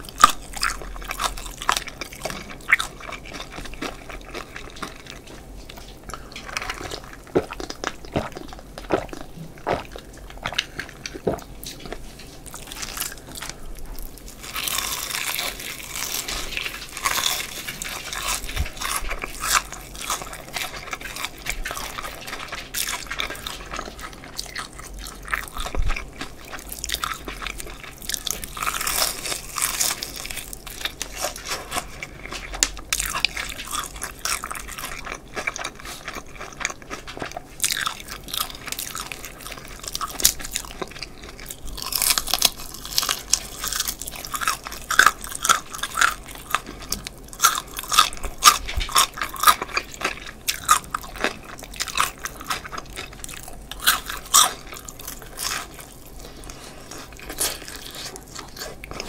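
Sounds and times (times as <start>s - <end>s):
crunching fried chicken: 0.0s - 59.0s.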